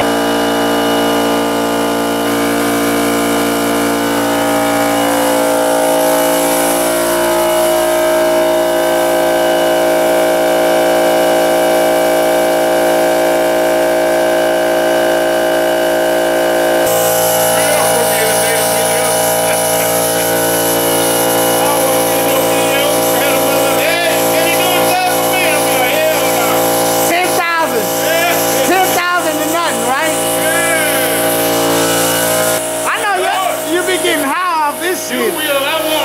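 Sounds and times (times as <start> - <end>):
machine hum: 0.0 - 36.0
spray gun hissing: 2.0 - 13.2, 16.8 - 36.0.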